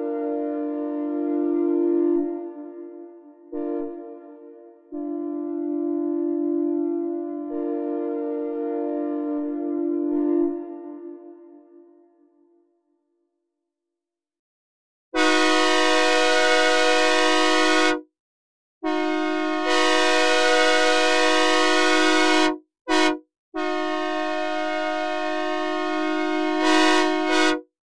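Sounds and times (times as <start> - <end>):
synthesized train air horn blasts: 0.0 - 11.8, 15.2 - 18.1, 18.8 - 27.7.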